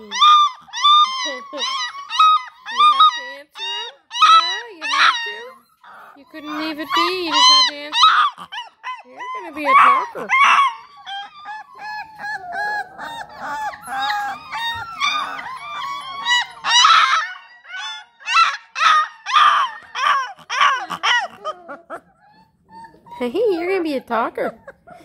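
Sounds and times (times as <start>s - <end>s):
puppies howling and yelping: 0.0s - 25.0s.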